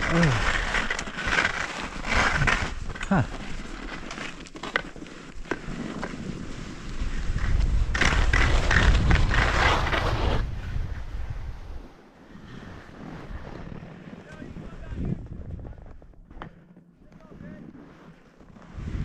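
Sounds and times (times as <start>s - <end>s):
skis scraping over snow: 0.0s - 19.0s.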